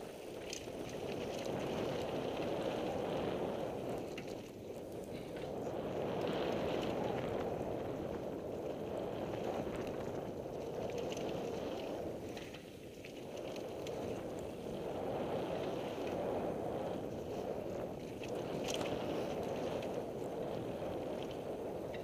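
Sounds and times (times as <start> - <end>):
bike clicks and rattles: 0.0 - 22.0
wind rushing over microphone: 0.0 - 22.0.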